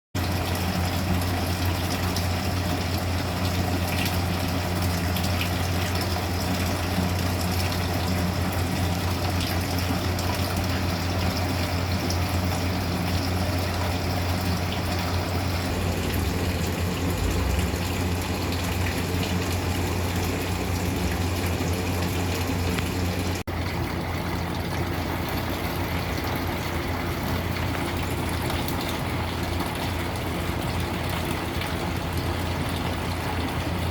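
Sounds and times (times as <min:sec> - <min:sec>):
low machine hum: 0:00.2 - 0:33.9.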